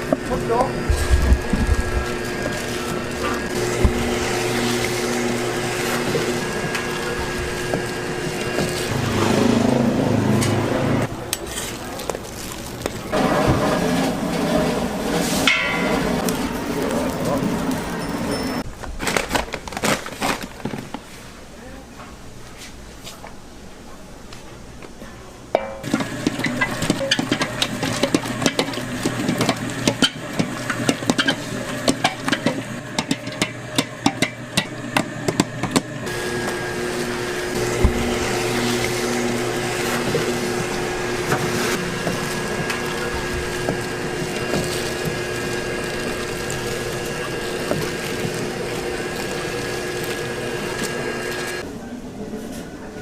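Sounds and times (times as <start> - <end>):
cooking machine humming: 0.0 - 20.8, 25.5 - 51.7.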